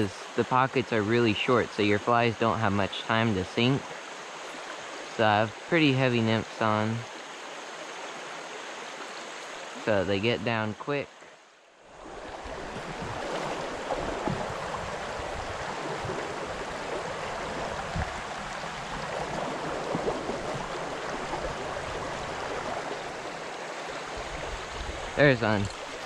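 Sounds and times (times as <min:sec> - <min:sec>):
creek rushing over stones: 0:00.0 - 0:26.0.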